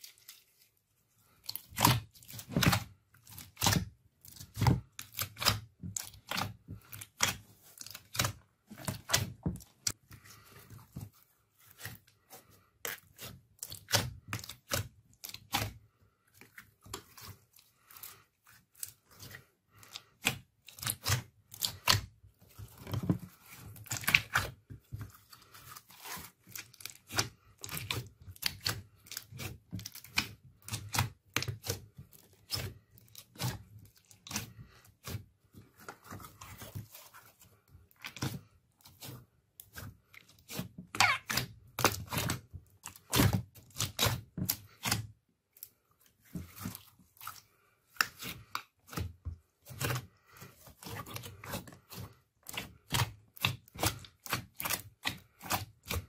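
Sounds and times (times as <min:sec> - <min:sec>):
slime squishing with wet pops: 0:01.3 - 0:56.0.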